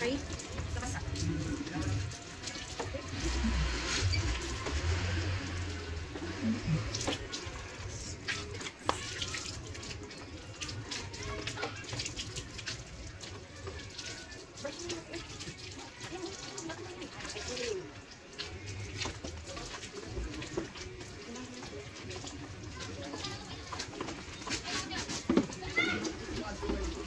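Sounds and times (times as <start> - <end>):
hose water splashing: 0.0 - 27.0
water dripping: 0.0 - 27.0.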